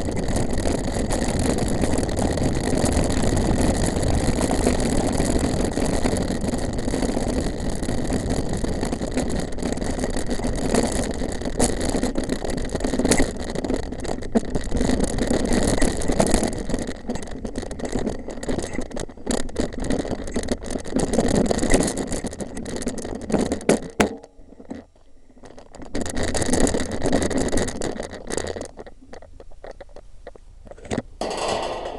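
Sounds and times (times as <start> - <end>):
wind rushing over microphone: 0.0 - 29.0
bike rattling and clicking: 0.0 - 31.9
tyre rumble: 0.0 - 31.9.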